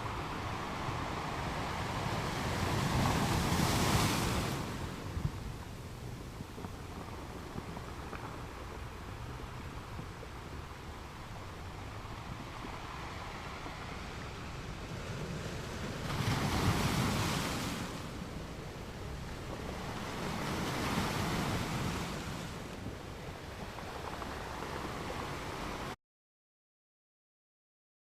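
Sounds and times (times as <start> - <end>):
waves washing in: 0.0 - 26.0.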